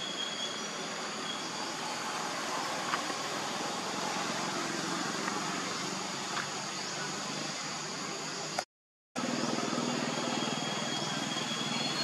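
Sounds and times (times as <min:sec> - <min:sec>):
outdoor background hiss: 0:00.0 - 0:08.6, 0:09.2 - 0:12.0.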